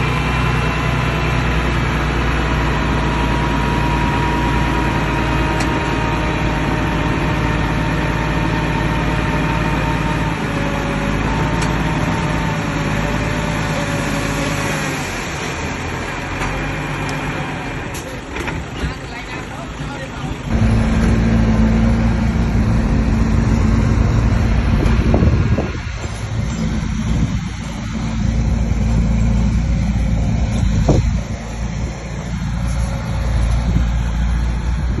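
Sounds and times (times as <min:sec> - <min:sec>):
diesel engine running with whine: 0:00.0 - 0:35.0.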